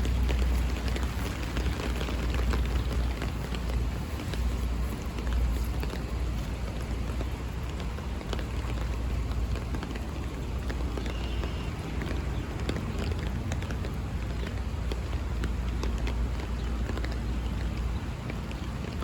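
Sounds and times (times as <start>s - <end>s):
rain tapping on an umbrella: 0.0s - 19.0s
wind rumble on microphone: 0.0s - 19.0s.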